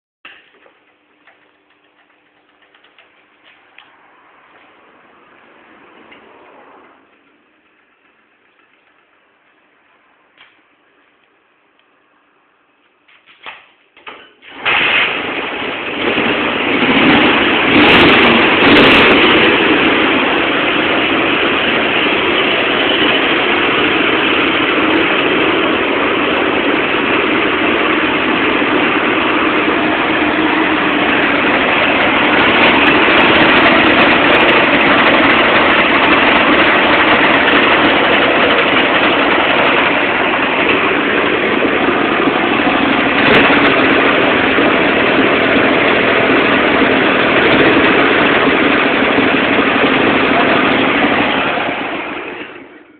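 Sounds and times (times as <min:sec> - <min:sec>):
motorcycle engine starting and running: 0:00.3 - 0:09.2, 0:13.1 - 0:52.9.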